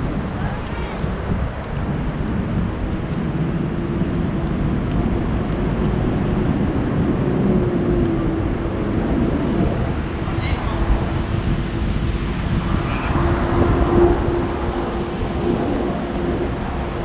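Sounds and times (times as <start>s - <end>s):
low engine rumble: 0.0s - 17.0s
held hum: 1.0s - 17.0s.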